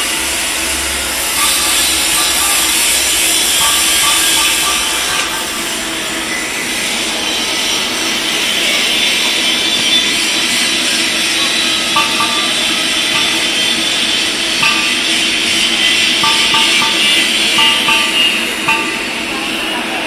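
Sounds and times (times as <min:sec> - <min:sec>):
machinery hiss: 0:00.0 - 0:20.0.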